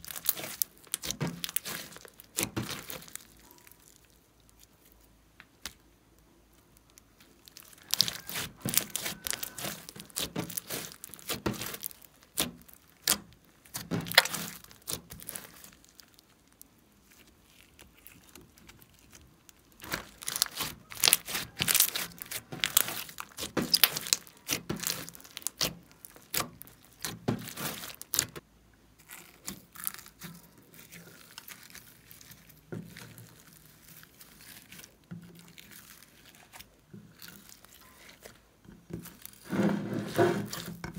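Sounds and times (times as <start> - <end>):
slime squishing and crackling: 0.0 - 40.9.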